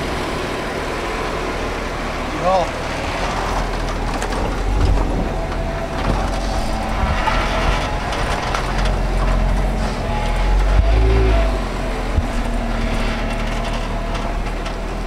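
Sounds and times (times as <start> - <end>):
off-road vehicle engine rumble: 0.0 - 15.0.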